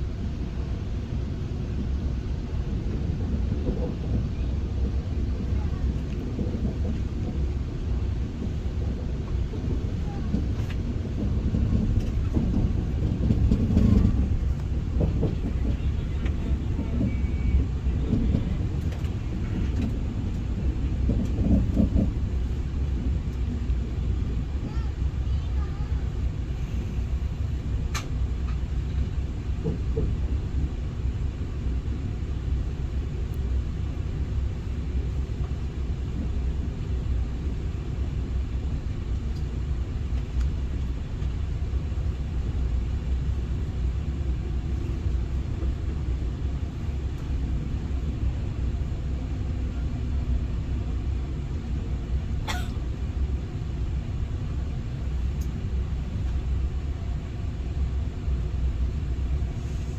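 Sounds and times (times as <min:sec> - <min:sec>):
train rumbling inside passenger car: 0:00.0 - 0:59.9.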